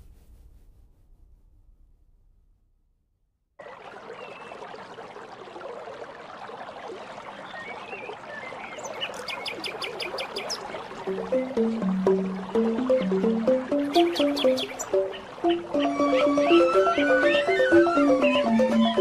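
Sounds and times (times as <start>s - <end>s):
running water trickling: 3.6s - 19.0s.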